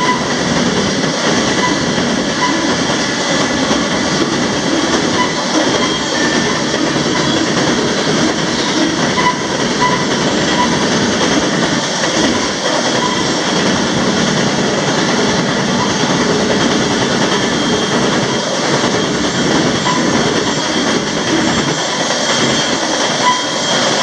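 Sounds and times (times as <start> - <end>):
steel wheels rolling over rails: 0.0 - 24.0.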